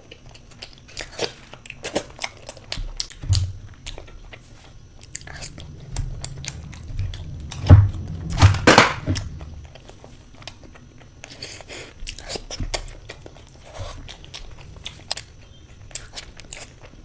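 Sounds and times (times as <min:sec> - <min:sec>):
biting and chewing: 0:00.0 - 0:08.3, 0:09.3 - 0:17.0.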